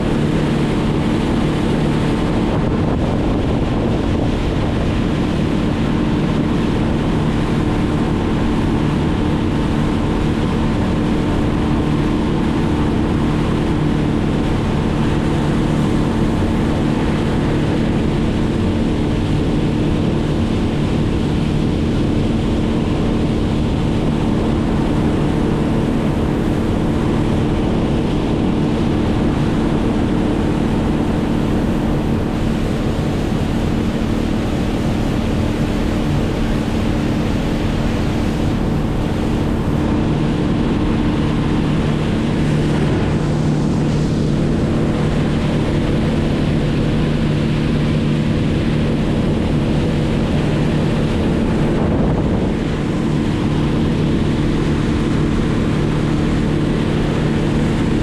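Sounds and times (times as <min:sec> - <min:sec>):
motor humming steadily: 0:00.0 - 0:58.0
rushing wind and water: 0:00.0 - 0:58.0.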